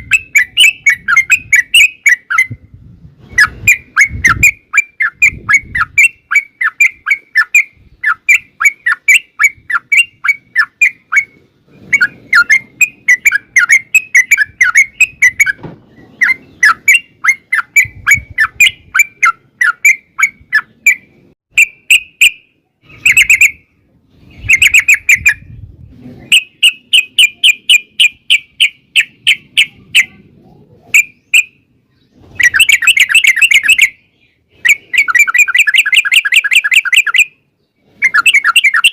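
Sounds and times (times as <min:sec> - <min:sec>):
bird chirping rapidly: 0:00.0 - 0:02.6, 0:03.2 - 0:25.6, 0:26.2 - 0:30.2, 0:30.9 - 0:38.9.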